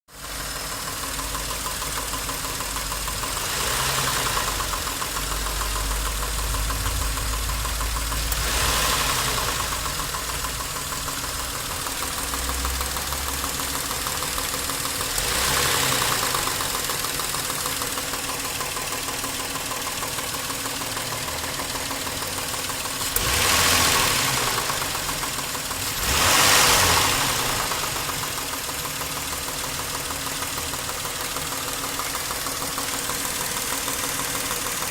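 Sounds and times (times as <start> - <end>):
car engine idling and revving: 0.1 - 34.9.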